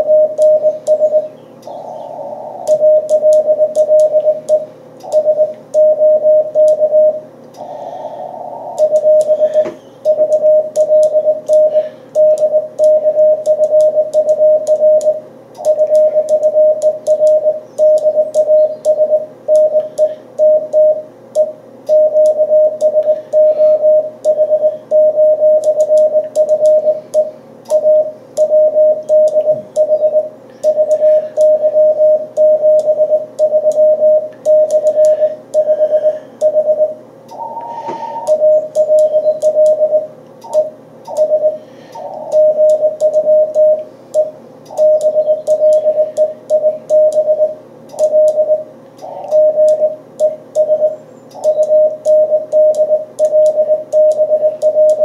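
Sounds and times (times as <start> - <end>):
morse code tone: 0.0 - 1.4, 2.6 - 7.3, 8.8 - 37.0, 37.8 - 55.0.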